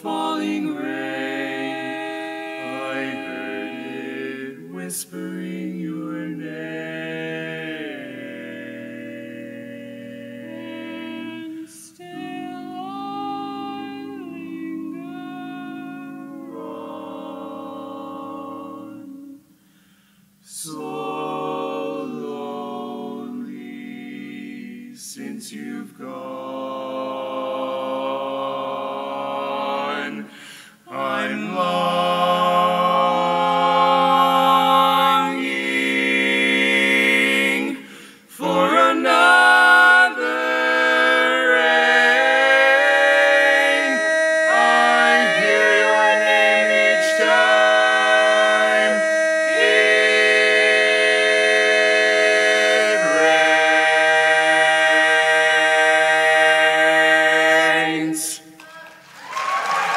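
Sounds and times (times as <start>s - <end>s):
quartet singing a cappella: 0.0s - 19.6s, 20.5s - 58.6s.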